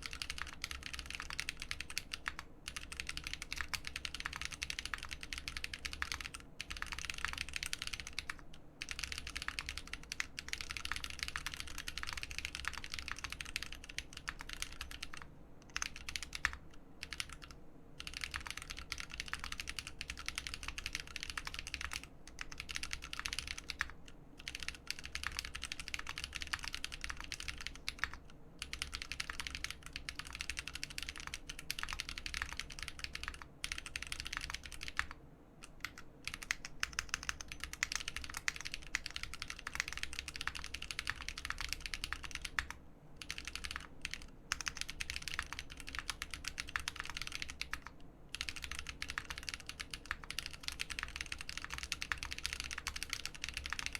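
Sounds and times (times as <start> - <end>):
fast typing on mechanical keyboard: 0.0 - 53.9.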